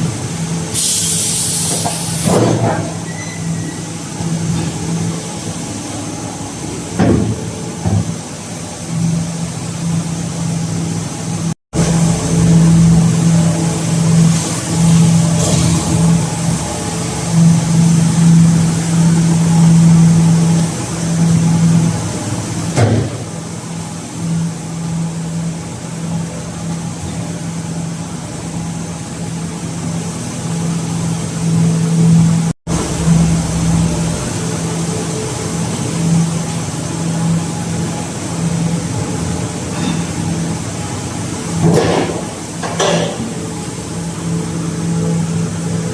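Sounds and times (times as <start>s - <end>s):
baler machinery humming: 0.0s - 45.9s.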